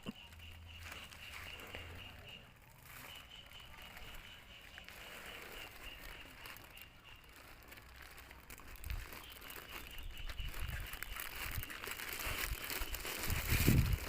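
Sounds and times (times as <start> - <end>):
faint rustling and crackling: 0.4 - 14.0.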